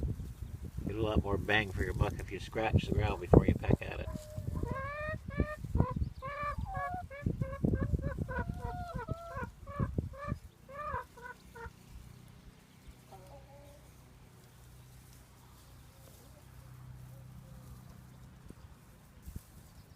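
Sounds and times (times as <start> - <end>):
chickens calling: 0.0 - 19.9.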